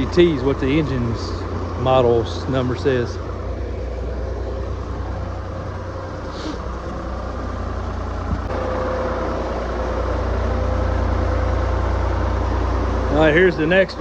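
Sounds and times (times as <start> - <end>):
high-pitched whine: 0.0 - 14.0
low machine drone: 0.0 - 14.0.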